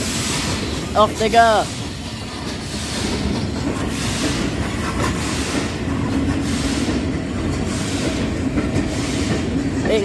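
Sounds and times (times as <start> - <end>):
diesel locomotive engine working: 0.0 - 10.0.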